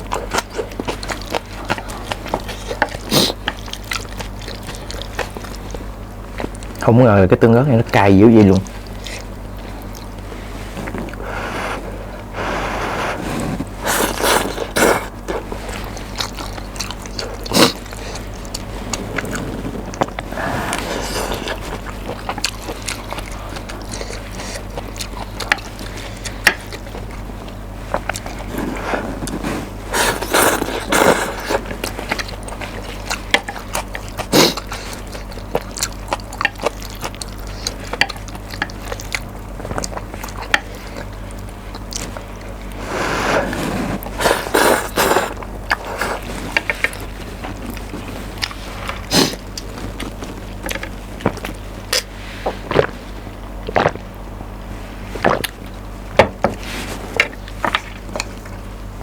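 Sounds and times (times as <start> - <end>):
wet slurping and chewing: 0.0 - 6.8, 8.6 - 54.2, 55.0 - 55.8.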